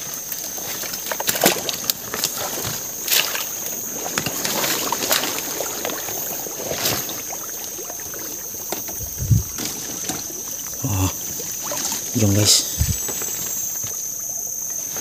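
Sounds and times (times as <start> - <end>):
water sloshing from wading: 0.1 - 15.0
sharp water splashes: 1.0 - 14.5.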